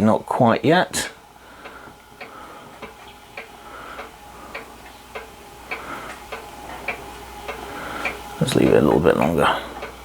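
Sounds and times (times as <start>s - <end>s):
faint steady hum: 0.0s - 10.0s
regular light ticking: 1.1s - 10.0s.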